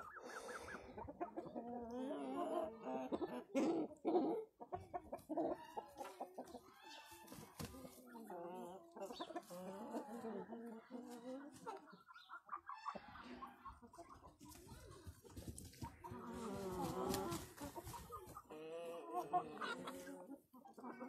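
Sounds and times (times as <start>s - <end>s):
chickens clucking and calling: 0.0s - 21.0s.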